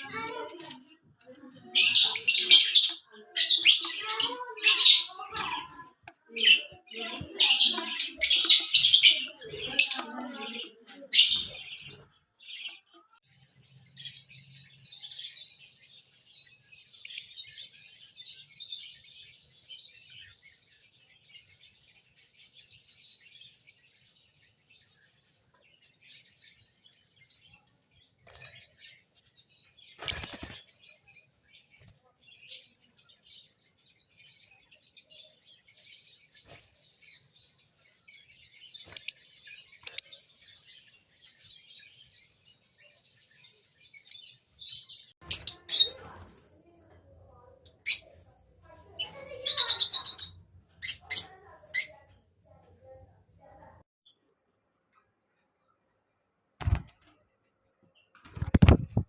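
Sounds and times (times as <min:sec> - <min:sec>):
lovebirds chirping and twittering: 0:00.0 - 0:59.0.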